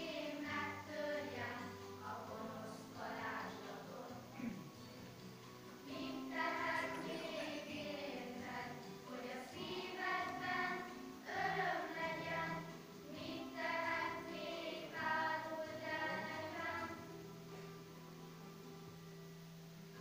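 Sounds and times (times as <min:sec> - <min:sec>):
children's choir singing: 0:00.0 - 0:04.6, 0:05.8 - 0:17.6.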